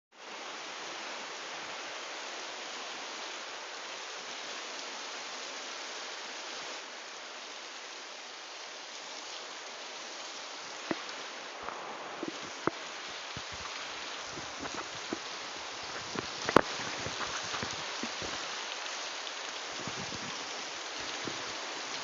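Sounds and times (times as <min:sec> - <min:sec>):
steady rain hiss: 0:00.1 - 0:22.0.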